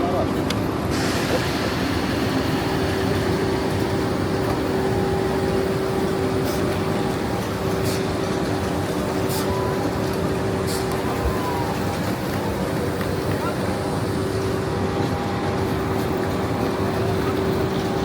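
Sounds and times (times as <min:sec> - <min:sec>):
mechanical hum with held tone: 0:00.0 - 0:18.0.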